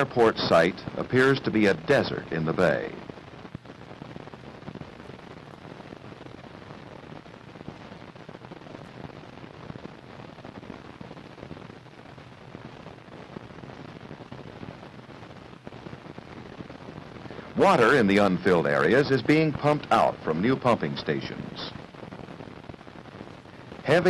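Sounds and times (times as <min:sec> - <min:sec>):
film soundtrack crackling hiss: 0:00.0 - 0:24.0.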